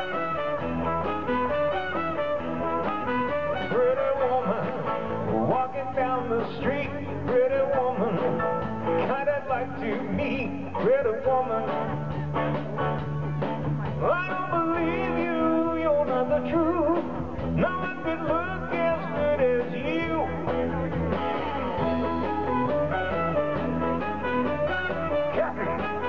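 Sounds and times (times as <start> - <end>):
live rock and roll band: 0.0 - 26.0.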